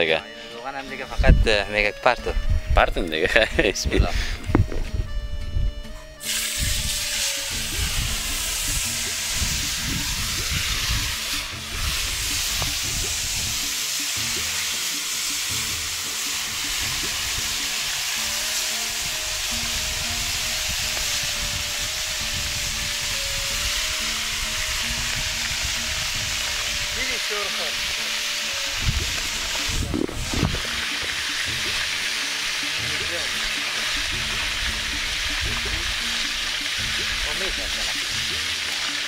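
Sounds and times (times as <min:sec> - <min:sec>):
fish sizzling in hot oil: 0:06.2 - 0:39.0.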